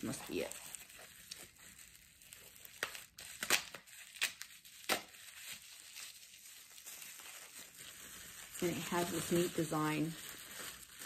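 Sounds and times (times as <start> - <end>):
bubble wrap crinkling: 0.0 - 11.0
sharp bubble wrap crackles: 0.0 - 11.0.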